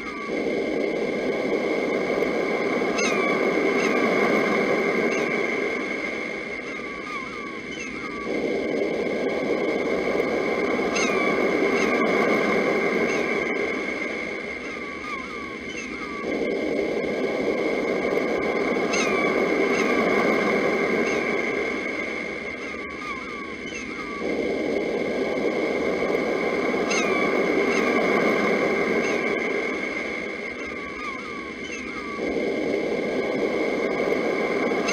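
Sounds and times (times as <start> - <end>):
sea surf rushing: 0.0 - 34.9
steady high ringing tone: 0.0 - 34.9.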